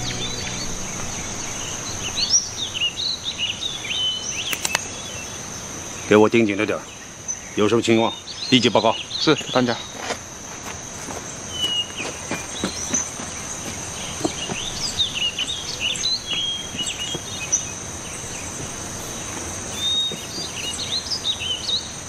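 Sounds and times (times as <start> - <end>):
high-pitched insect drone: 0.0 - 9.0, 9.6 - 22.0
birds chirping: 0.0 - 22.0.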